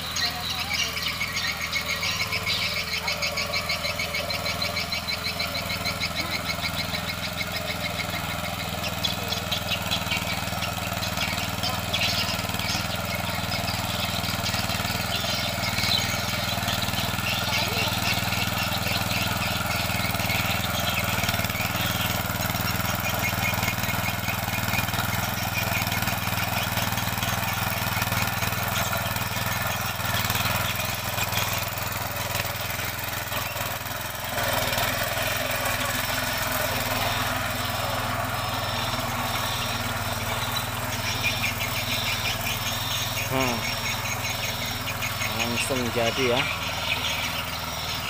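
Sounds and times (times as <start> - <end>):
tiller engine running under load: 0.0 - 48.0.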